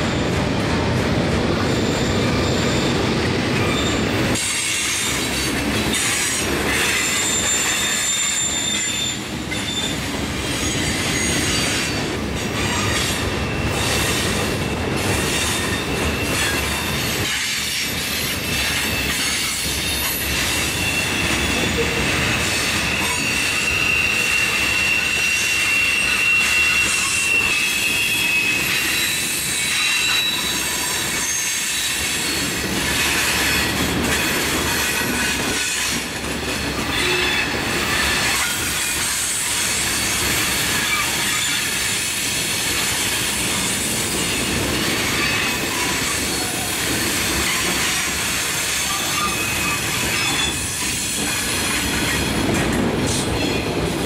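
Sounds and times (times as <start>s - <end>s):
train wheels rumbling on rail: 0.0s - 54.0s
high wheel squeal: 1.6s - 36.1s, 36.7s - 42.2s, 43.0s - 52.3s.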